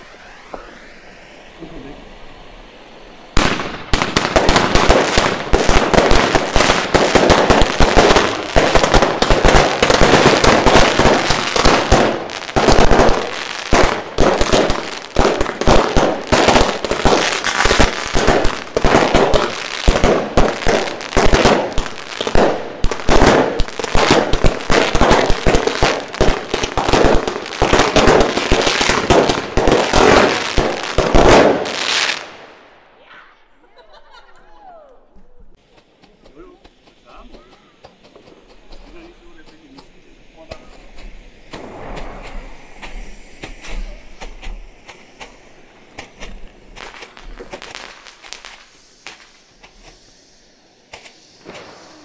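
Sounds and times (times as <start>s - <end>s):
fireworks bangs and crackling: 0.0s - 33.1s, 35.5s - 52.0s.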